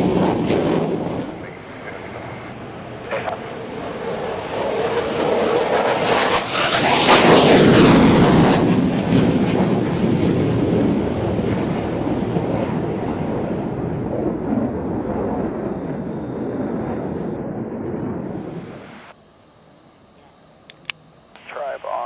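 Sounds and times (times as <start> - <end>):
jet aircraft roar: 0.0 - 19.2, 20.2 - 22.0.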